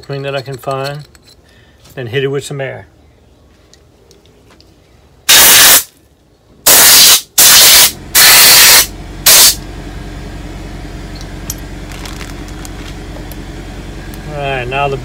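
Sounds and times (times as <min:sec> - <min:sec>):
steady low hum: 0:00.8 - 0:15.0.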